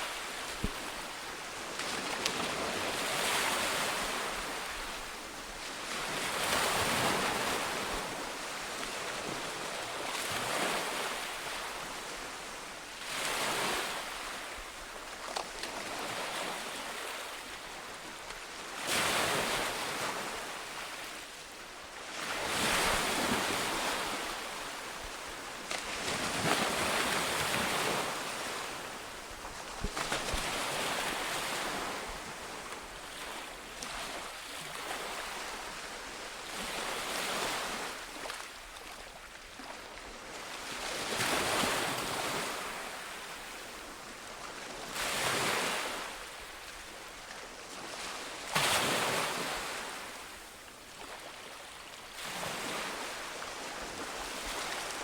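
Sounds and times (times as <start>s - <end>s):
sea waves breaking on shore: 0.0s - 21.4s, 22.0s - 44.0s, 44.8s - 55.0s.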